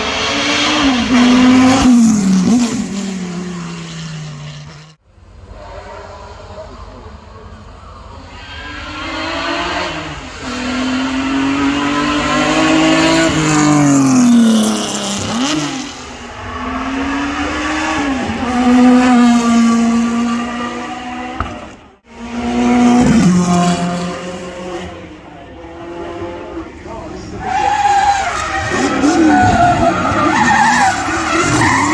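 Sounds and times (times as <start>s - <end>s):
car engine at high revs: 0.0s - 31.9s.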